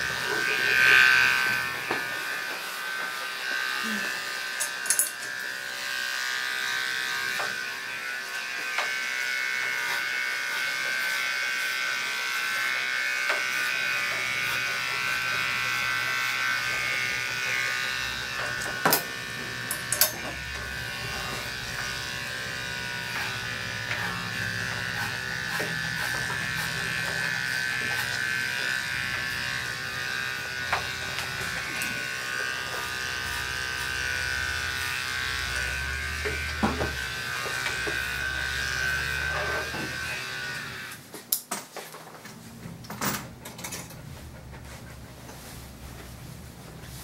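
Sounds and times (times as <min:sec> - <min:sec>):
dog clipper buzzing: 0:00.0 - 0:41.4.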